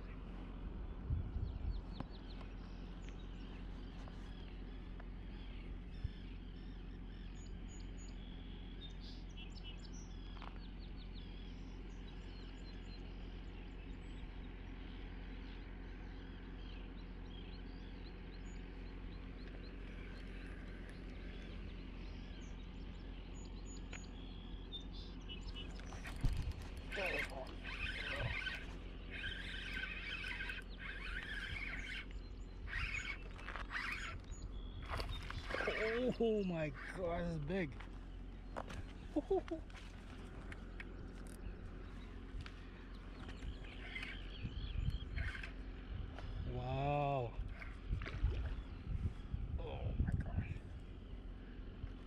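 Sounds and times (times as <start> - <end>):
low outdoor background hum: 0.0 - 52.0
small birds chirping: 0.0 - 52.0.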